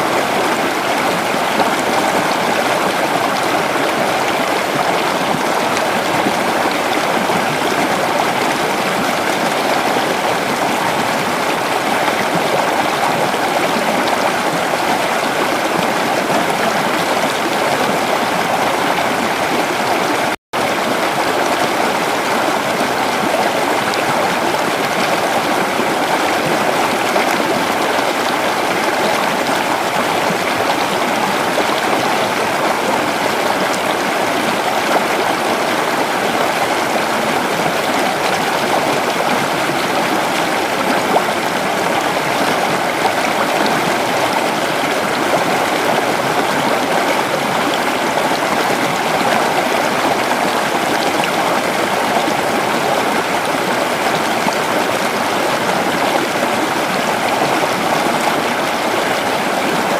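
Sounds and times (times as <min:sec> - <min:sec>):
creek water flowing over rocks: 0:00.0 - 0:59.9.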